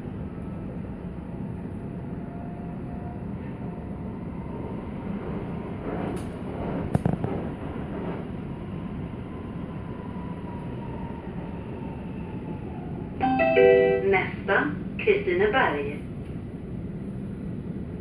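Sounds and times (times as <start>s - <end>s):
metro train rumbling on track: 0.0s - 18.0s.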